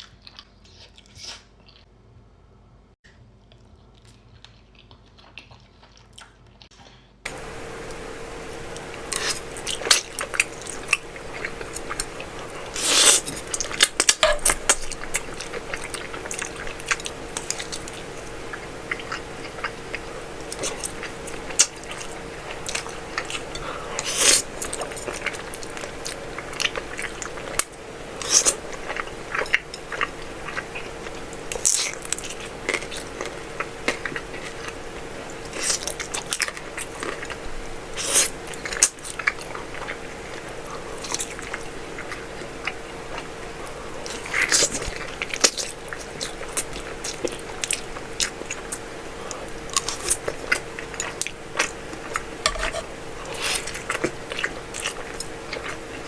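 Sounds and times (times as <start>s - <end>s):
person chewing noodles: 0.0s - 1.9s, 3.3s - 56.0s
steady hum: 7.2s - 56.0s.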